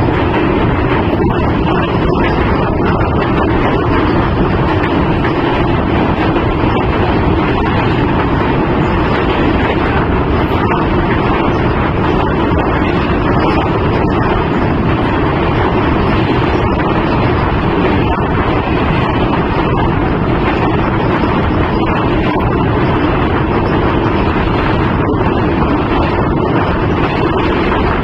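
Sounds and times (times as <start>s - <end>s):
train wheels rumbling on track: 0.0s - 28.0s
wind noise: 0.0s - 28.0s.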